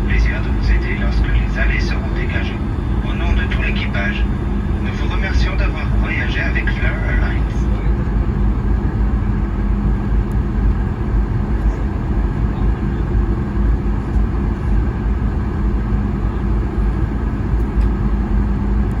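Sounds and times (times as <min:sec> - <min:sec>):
airplane cabin rumble and hum: 0:00.0 - 0:19.0.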